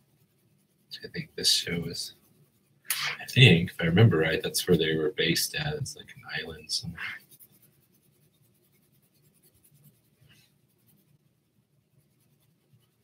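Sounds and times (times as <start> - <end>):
colored pencil scratching on paper: 0.0 - 13.0.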